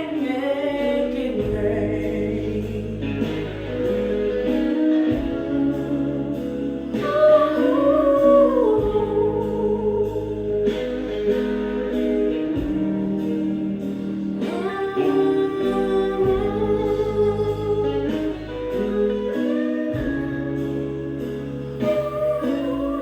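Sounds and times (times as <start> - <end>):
guitar: 0.0 - 23.0
slow gospel song: 0.0 - 23.0
wordless vocal line: 0.0 - 23.0.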